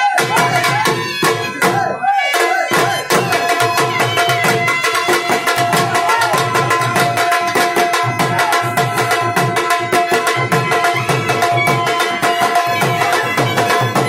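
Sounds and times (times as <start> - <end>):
dhol drum beating: 0.0 - 14.0
held melody line: 0.3 - 14.0.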